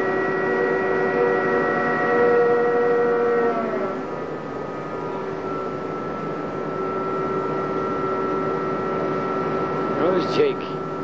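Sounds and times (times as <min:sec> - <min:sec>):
machinery high whine: 0:00.0 - 0:11.0
machinery low hum: 0:00.0 - 0:11.0
machinery rough rumble: 0:00.0 - 0:11.0.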